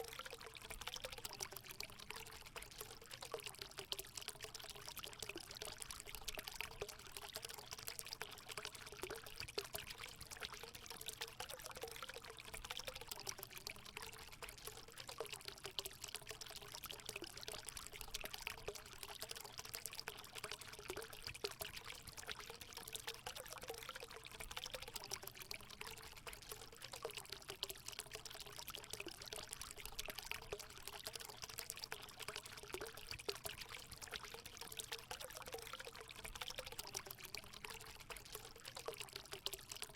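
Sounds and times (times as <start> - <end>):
water pouring into pool: 0.0 - 39.9.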